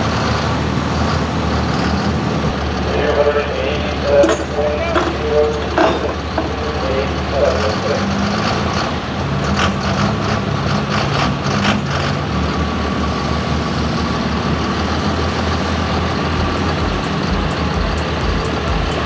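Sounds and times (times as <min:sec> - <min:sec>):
deep engine throb: 0:00.0 - 0:19.0
diesel engine idling: 0:00.0 - 0:19.0.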